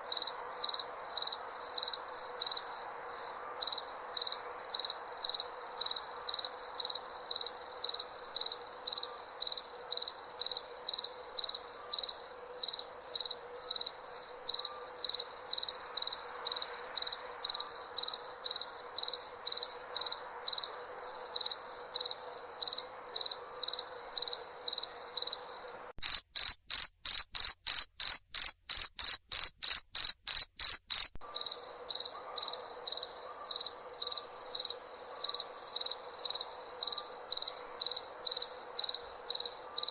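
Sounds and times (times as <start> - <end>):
background hiss: 0.0 - 26.0, 31.2 - 39.9
cricket chirping: 0.0 - 39.9.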